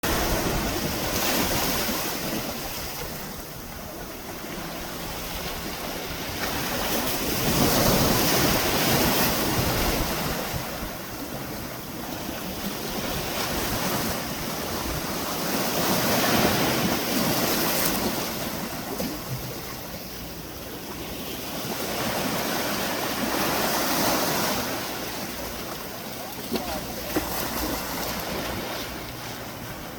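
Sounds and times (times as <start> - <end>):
sea waves washing against breakwater: 0.0 - 29.9.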